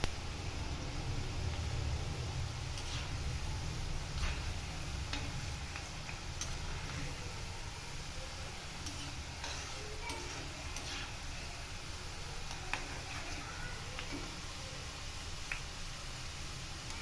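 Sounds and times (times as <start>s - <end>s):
garlic frying in oil: 0.0s - 17.0s.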